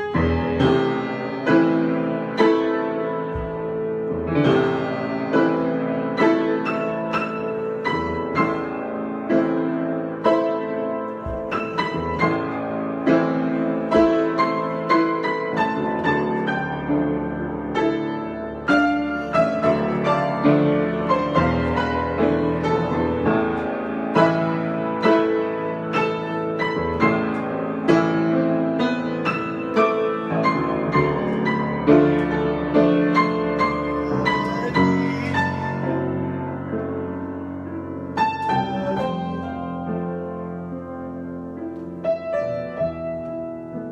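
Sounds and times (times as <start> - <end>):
solo piano improvisation: 0.0 - 43.9.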